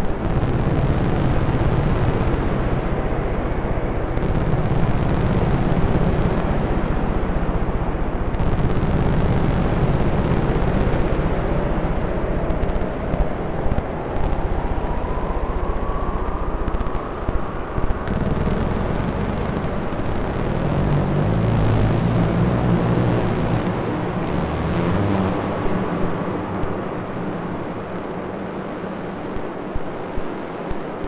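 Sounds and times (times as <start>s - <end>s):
dense synthesizer noise: 0.0s - 31.0s.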